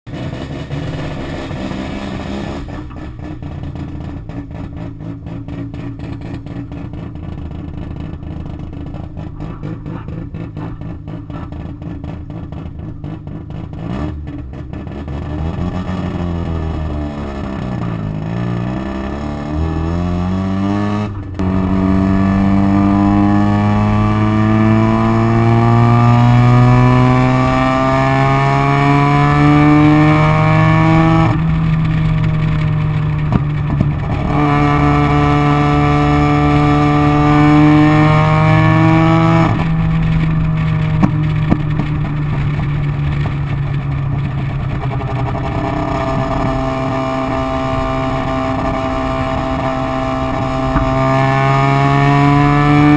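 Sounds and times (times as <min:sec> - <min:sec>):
exhaust backfire pops: 0:00.1 - 0:16.8, 0:20.9 - 0:52.9
rotary engine revving: 0:00.1 - 0:52.9.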